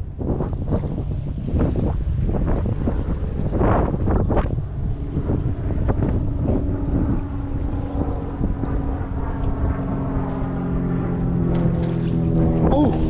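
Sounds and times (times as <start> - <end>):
boat motor hum: 0.0 - 13.0
wind buffeting microphone: 0.0 - 13.0.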